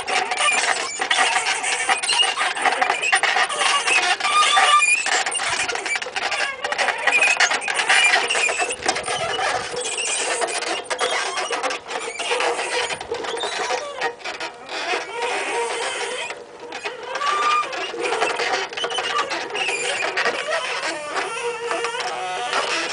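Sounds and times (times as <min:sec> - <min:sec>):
clicking and rattling: 0:00.0 - 0:22.9
tricycle creaking and squeaking: 0:00.0 - 0:22.9.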